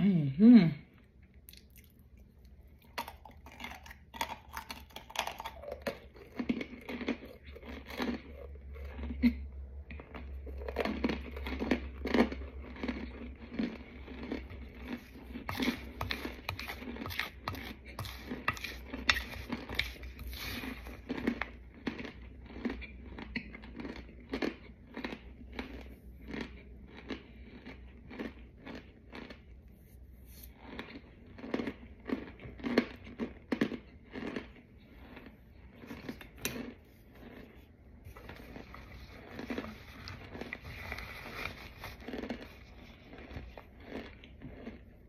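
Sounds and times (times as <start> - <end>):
crunchy chewing: 1.5 - 29.6, 30.4 - 45.0.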